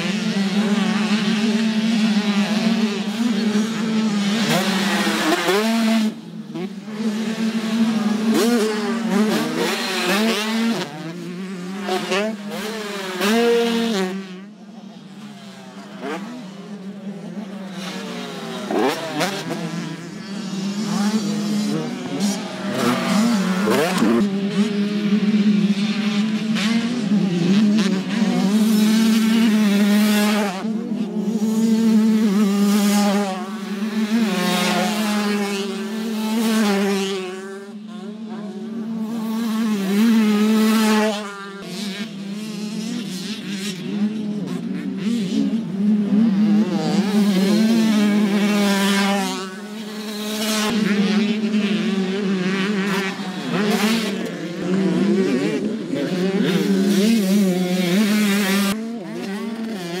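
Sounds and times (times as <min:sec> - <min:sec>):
motocross bike engines revving: 0:00.0 - 1:00.0.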